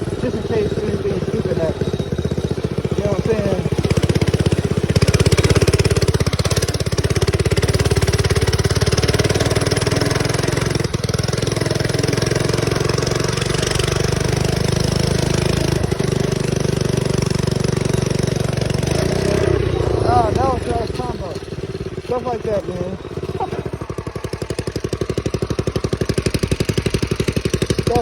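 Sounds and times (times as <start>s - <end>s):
mini bike engine running: 0.0s - 28.0s.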